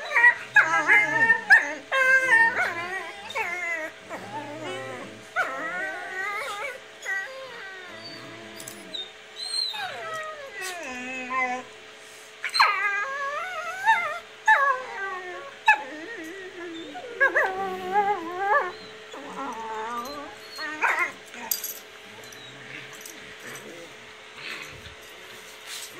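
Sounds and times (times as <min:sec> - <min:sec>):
dog whining and howling: 0:00.0 - 0:11.7, 0:12.4 - 0:24.9.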